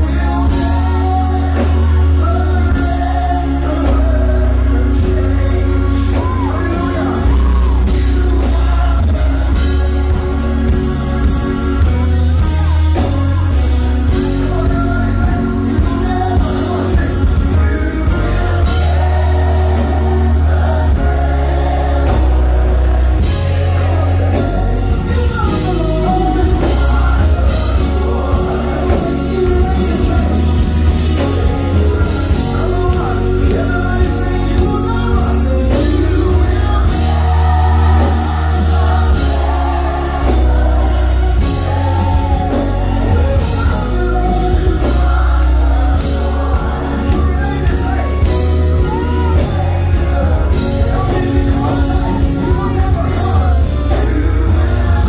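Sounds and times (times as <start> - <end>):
band with heavy bass: 0.0 - 55.0
group singing gospel: 0.0 - 55.0
steady drum beat: 0.0 - 55.0.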